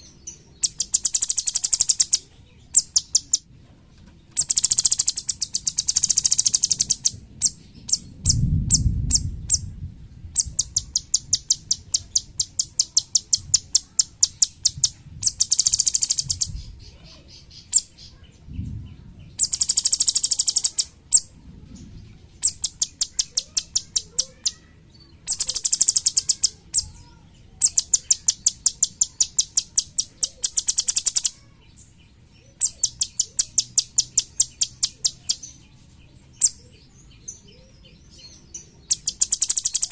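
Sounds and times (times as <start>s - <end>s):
songbird trills and chips: 0.0s - 9.7s, 10.3s - 18.4s, 19.3s - 39.9s.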